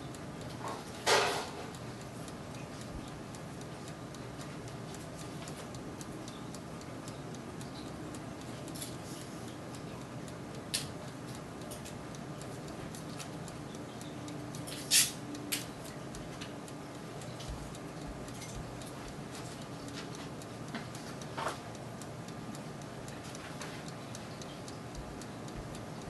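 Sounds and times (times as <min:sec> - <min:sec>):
convection oven humming: 0:00.0 - 0:26.0
sharp ticks and pops: 0:00.1 - 0:26.0.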